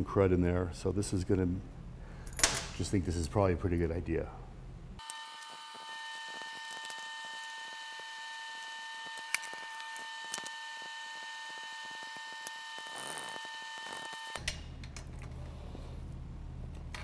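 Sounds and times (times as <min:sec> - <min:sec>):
steady high whine: 0:02.6 - 0:17.0.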